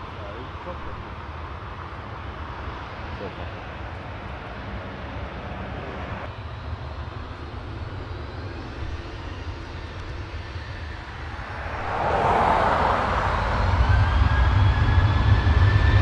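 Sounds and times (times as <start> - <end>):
jet engines roaring on takeoff: 0.0 - 16.0.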